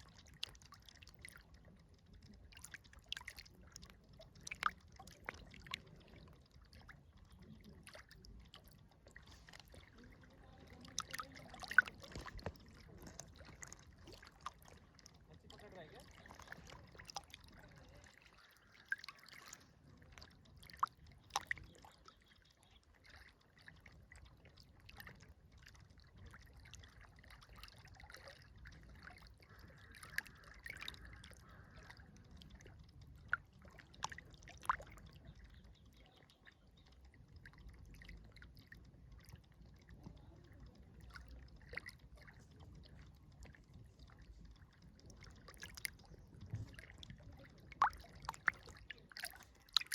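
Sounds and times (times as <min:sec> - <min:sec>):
low steady rumble: 0:00.0 - 0:49.9
river water trickling: 0:00.0 - 0:49.9
water splashes and drips: 0:00.0 - 0:49.9.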